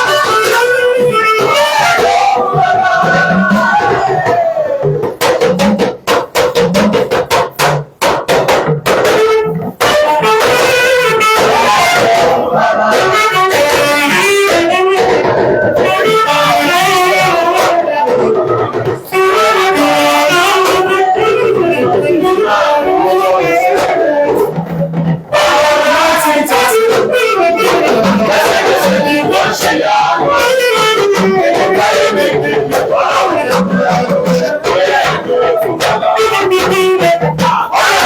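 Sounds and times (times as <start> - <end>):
sharp percussive hits: 0.0 - 38.0.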